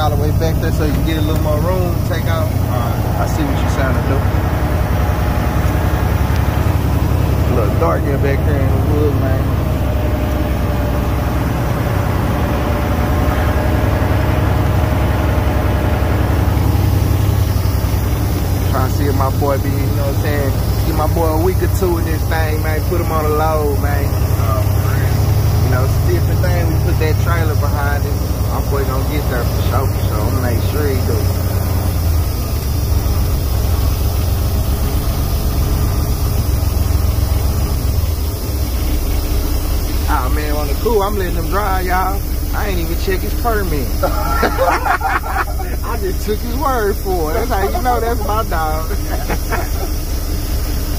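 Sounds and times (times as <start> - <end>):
diesel truck engine droning: 0.0 - 50.9.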